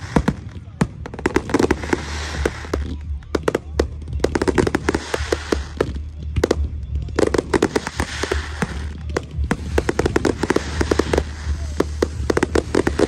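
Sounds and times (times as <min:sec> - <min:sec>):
crackling hiss: 0:00.0 - 0:13.0
fireworks bangs: 0:00.0 - 0:13.0.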